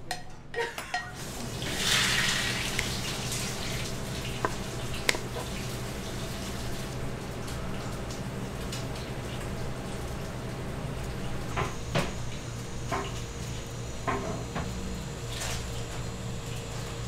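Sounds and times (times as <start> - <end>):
water running from tap: 1.1 - 17.0.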